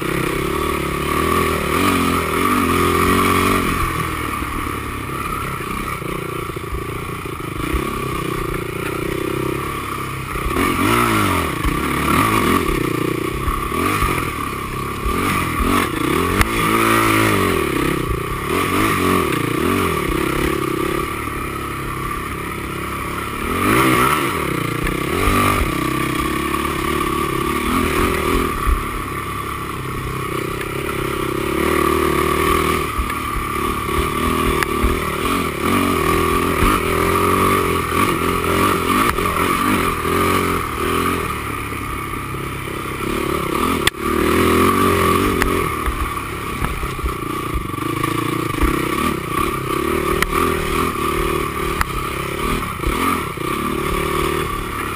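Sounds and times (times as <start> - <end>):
quad engine revving: 0.0 - 54.9
quad rattling over rough ground: 0.0 - 54.9.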